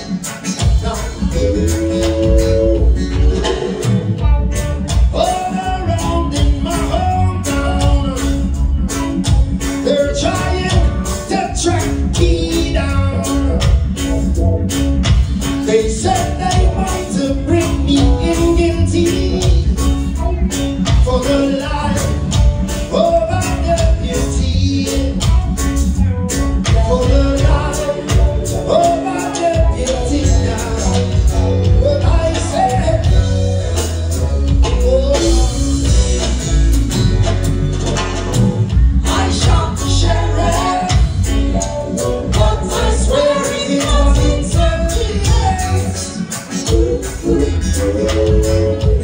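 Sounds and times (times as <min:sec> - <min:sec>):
band music with singing: 0:00.0 - 0:49.0
bass line: 0:00.0 - 0:49.0
drum kit: 0:00.0 - 0:49.0
guitar: 0:00.0 - 0:49.0.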